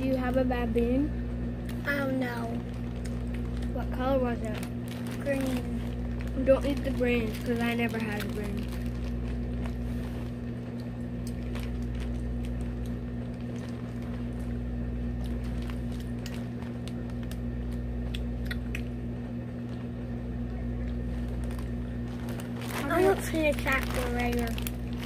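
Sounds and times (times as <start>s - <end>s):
steady low hum: 0.0s - 25.0s
plastic bag crinkling: 1.7s - 18.0s, 20.8s - 25.0s.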